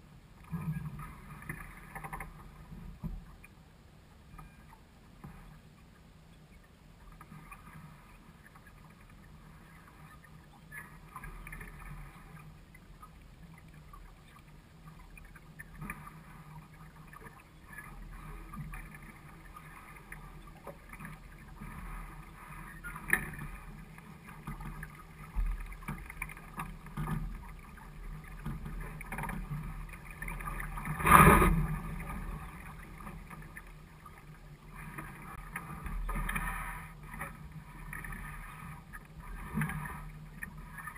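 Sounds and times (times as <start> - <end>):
water rushing along boat hull: 0.0 - 40.9.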